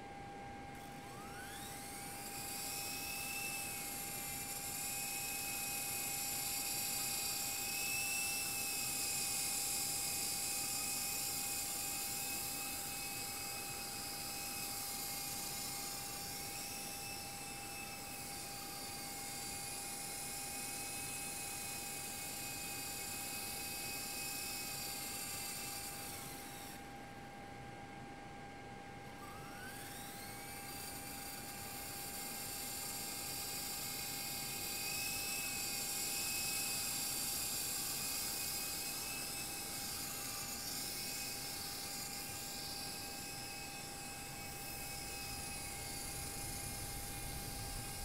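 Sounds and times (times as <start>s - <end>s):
rc helicopter motor whine: 0.0s - 27.7s, 28.9s - 48.0s.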